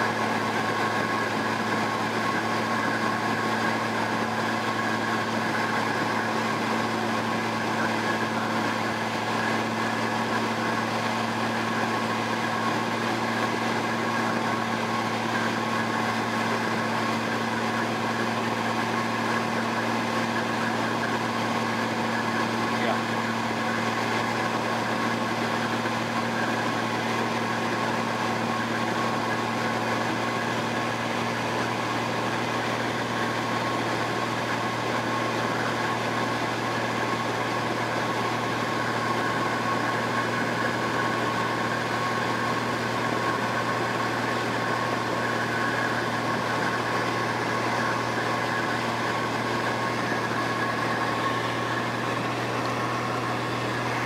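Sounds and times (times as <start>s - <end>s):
airplane engine and propeller droning: 0.0s - 54.0s.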